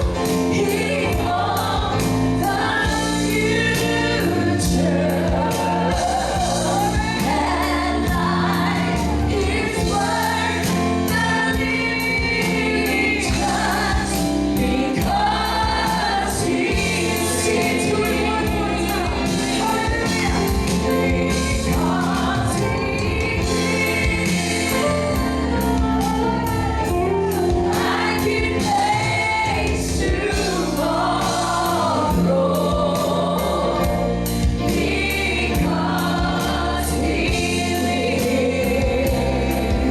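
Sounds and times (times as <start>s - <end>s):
bass and keyboard chords: 0.0s - 39.9s
gospel choir singing: 0.0s - 39.9s
steady drum beat: 0.0s - 39.9s.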